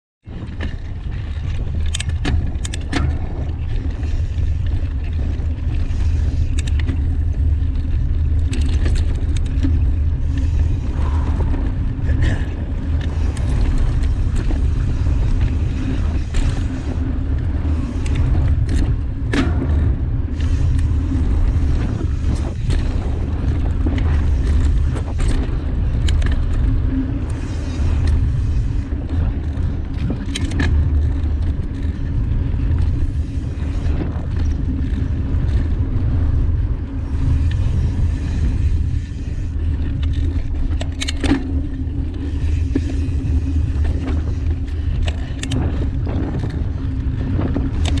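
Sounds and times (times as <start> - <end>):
wind and tyres rumbling: 0.2 - 48.0
bike knocks and rattles: 0.3 - 48.0.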